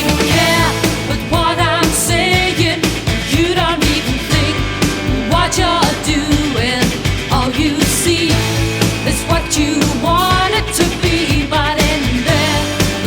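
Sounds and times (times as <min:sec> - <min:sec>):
pop song with sung vocal: 0:00.0 - 0:13.0.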